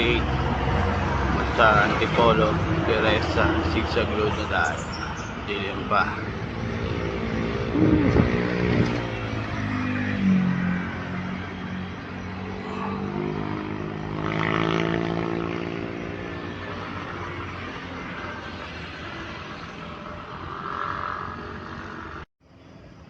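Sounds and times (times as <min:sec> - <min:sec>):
vehicles passing on road: 0:00.0 - 0:22.3.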